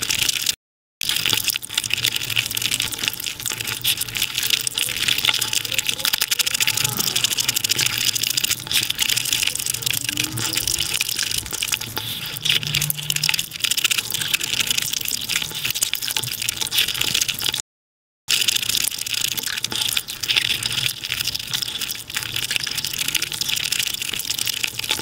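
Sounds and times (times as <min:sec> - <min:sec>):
wet crackling eating sounds: 0:00.0 - 0:17.6, 0:18.3 - 0:25.0.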